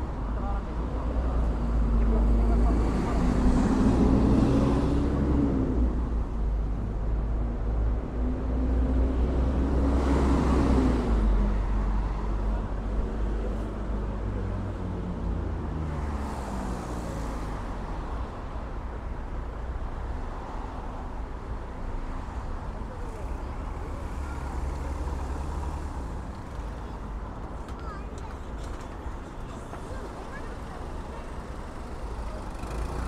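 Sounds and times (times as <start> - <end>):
low rumble of traffic: 0.0 - 33.0.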